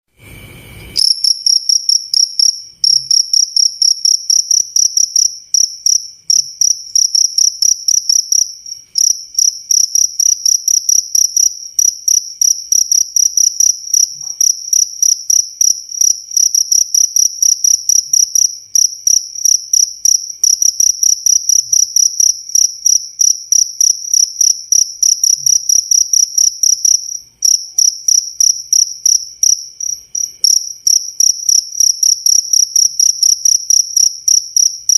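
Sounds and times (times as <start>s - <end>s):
cricket chirping: 1.0s - 34.9s.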